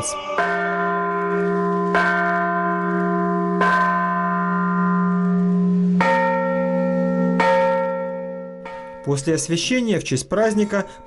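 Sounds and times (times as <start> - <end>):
higher-pitched bell ringing: 0.0 - 9.2
deep church bell struck: 0.4 - 9.3.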